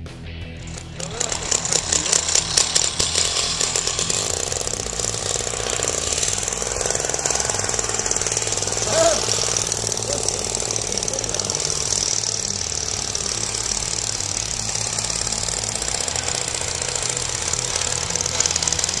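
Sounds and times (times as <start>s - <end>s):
engine running with rattle: 0.0s - 19.0s.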